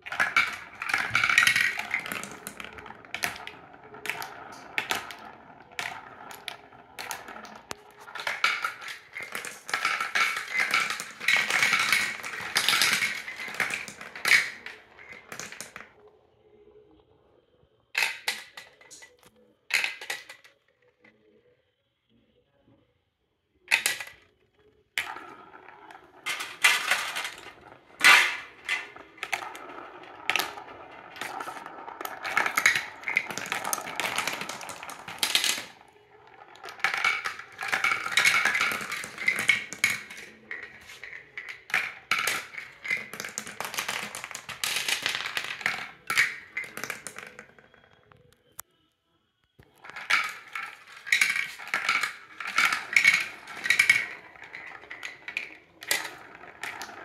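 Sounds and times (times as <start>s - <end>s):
marbles rattling down plastic track: 0.0s - 16.0s, 18.0s - 20.6s, 23.7s - 24.2s, 25.0s - 48.2s, 49.6s - 57.0s.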